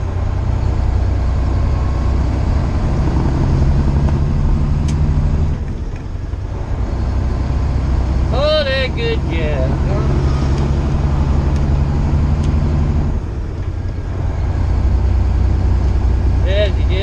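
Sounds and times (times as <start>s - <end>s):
diesel truck engine running: 0.0s - 17.0s
tyre and road noise: 0.0s - 17.0s.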